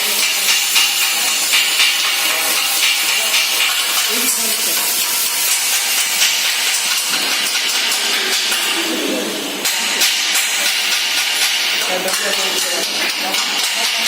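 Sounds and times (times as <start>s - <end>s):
welding crackling hiss: 0.0s - 14.0s.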